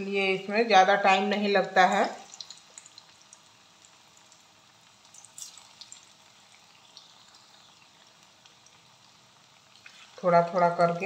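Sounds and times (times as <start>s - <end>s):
oil sizzling with pops: 0.0s - 11.0s.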